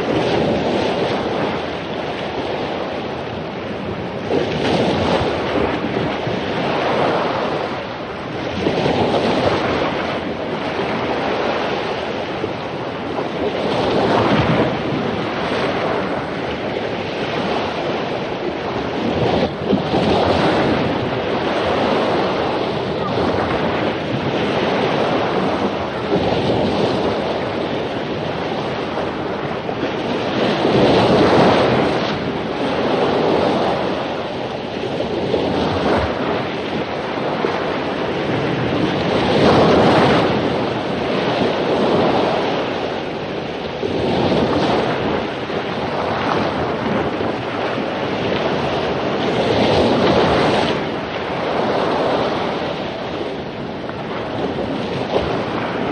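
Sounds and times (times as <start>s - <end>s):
waves crashing on a beach: 0.0s - 55.9s
wind: 0.0s - 55.9s.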